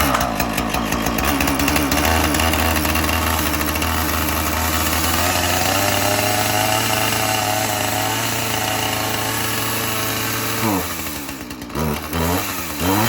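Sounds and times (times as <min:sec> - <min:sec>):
chainsaw running: 0:00.0 - 0:13.0.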